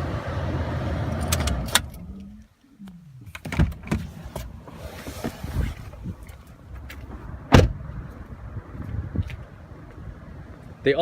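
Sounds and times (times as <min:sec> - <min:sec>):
steady low rumble: 0:01.8 - 0:10.9.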